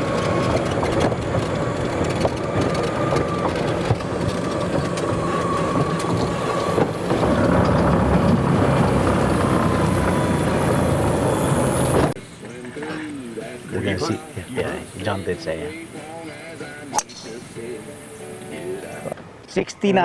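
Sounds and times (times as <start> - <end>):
thin whine: 0.0 - 19.3
wheels rumbling: 0.0 - 19.4.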